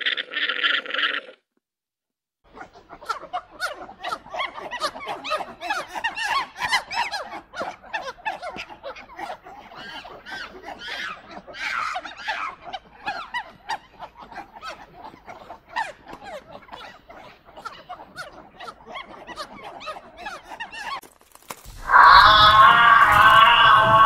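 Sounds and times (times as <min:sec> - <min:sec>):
monkeys squeaking and chirping: 0:02.5 - 0:24.0.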